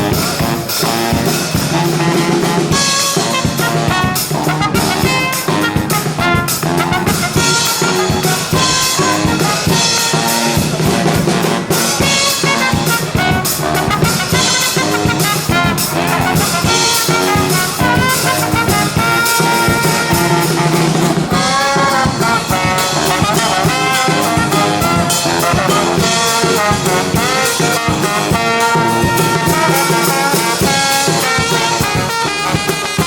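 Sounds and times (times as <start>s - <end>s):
brass band playing: 0.0s - 33.0s
drum beat: 0.0s - 33.0s.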